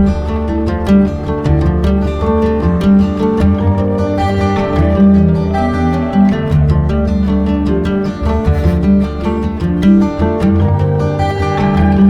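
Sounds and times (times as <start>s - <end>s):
plucked-string instrumental music: 0.0s - 12.0s.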